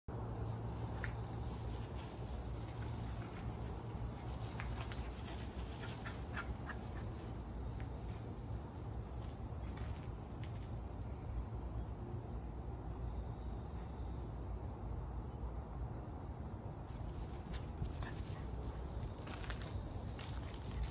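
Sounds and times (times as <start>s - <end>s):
crickets trilling: 0.1s - 20.9s.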